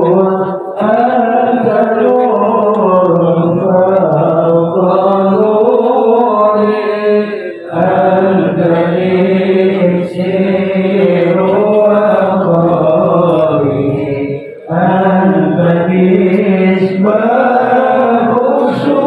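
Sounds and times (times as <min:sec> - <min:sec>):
devotional chanting: 0:00.0 - 0:19.0.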